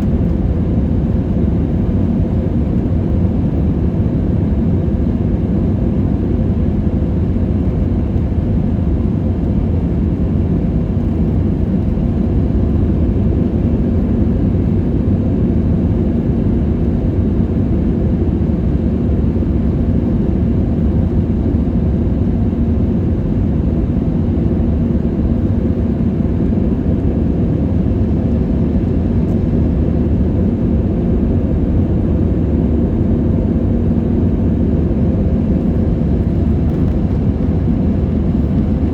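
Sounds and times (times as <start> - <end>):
engine and airflow rush: 0.0 - 38.9.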